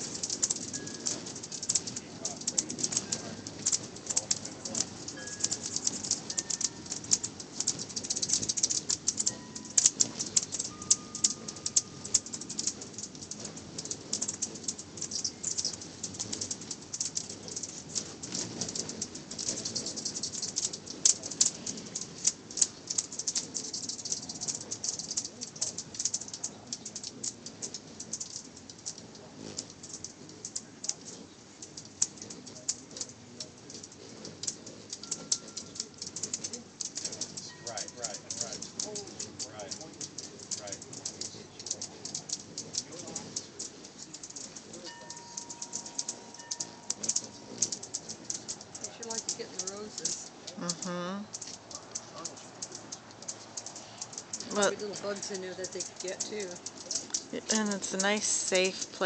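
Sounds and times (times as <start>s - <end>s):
hummingbirds chittering: 0.0s - 50.6s, 51.2s - 59.0s.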